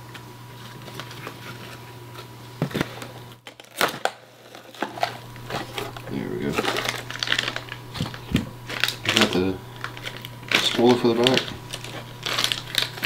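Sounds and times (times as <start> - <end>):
packaging rustling and crinkling: 0.6 - 13.0.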